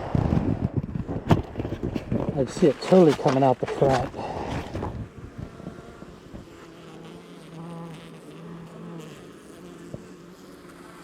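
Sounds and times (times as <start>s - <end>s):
honeybees buzzing: 1.0s - 11.0s.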